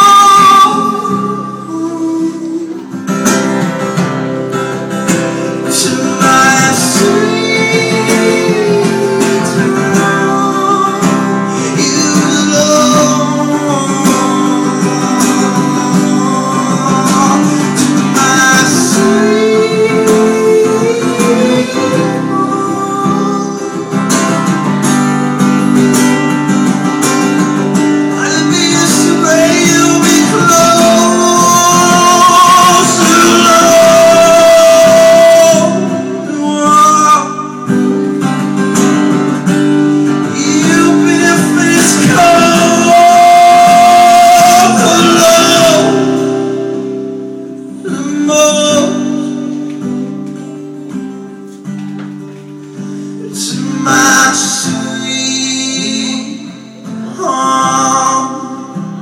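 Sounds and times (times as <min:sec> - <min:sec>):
man singing: 0:00.0 - 0:51.7, 0:52.3 - 0:59.0
strummed guitar: 0:00.0 - 0:59.0.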